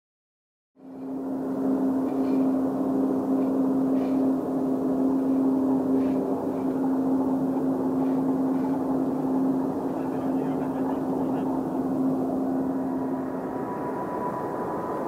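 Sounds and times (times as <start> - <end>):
jet engines droning: 0.8 - 15.0.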